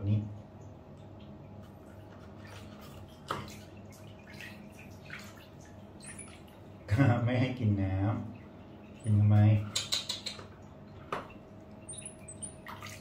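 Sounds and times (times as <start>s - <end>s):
low hum: 0.3s - 13.0s
water drips and splashes: 0.4s - 13.0s.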